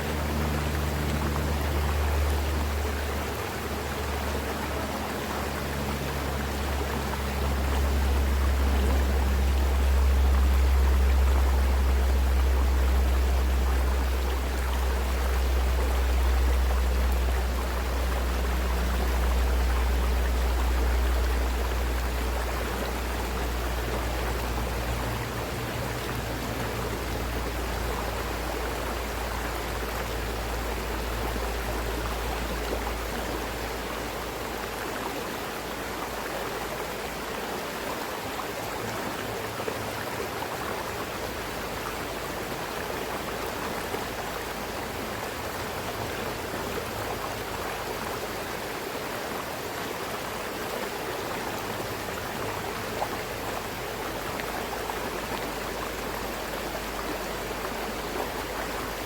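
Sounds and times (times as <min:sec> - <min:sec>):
mountain river rushing: 0:00.0 - 0:59.0.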